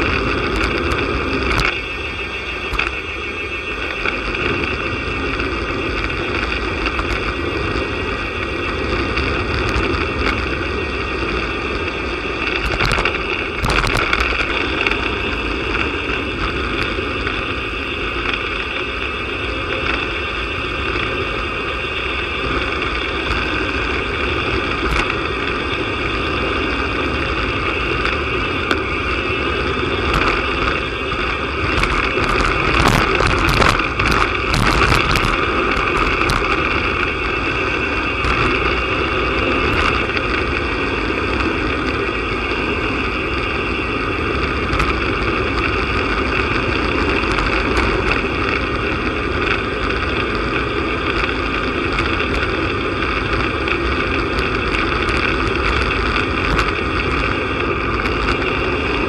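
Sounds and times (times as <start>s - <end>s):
bike tyres on tarmac: 0.0s - 59.0s
wind buffeting microphone: 0.0s - 59.0s.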